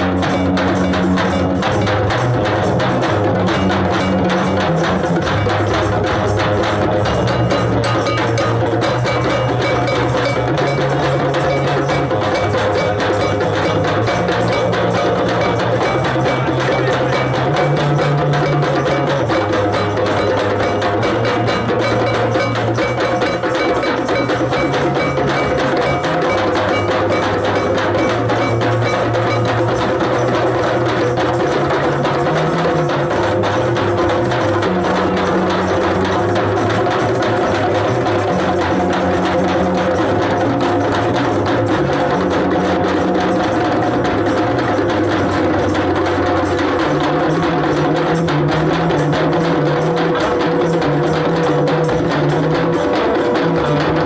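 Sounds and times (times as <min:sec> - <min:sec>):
hand drummers playing djembes: 0:00.0 - 0:54.0.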